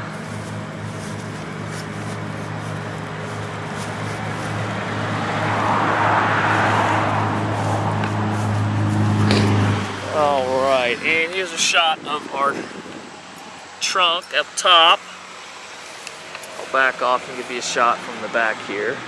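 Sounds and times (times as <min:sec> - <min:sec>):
rush of noise: 0:00.0 - 0:18.2
minivan engine idling: 0:00.0 - 0:19.0.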